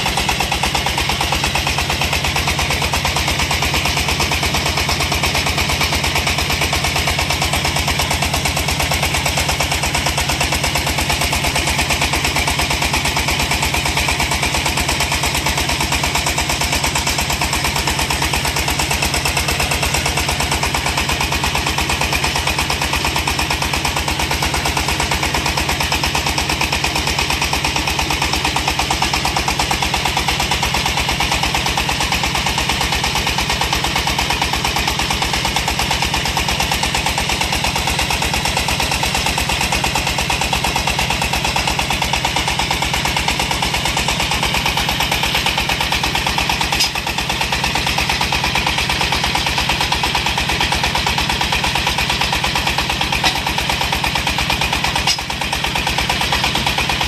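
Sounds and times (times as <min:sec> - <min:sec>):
diesel engine chugging: 0:00.0 - 0:57.0
drilling mud circulating: 0:00.0 - 0:57.0.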